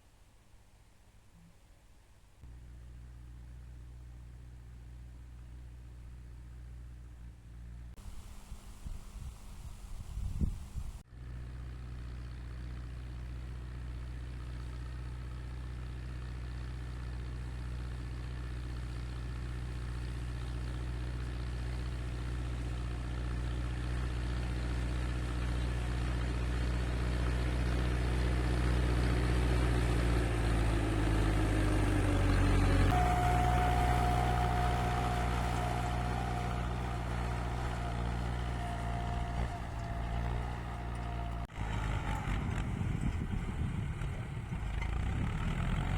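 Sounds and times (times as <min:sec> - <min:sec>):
tractor engine running: 0:02.5 - 0:45.9.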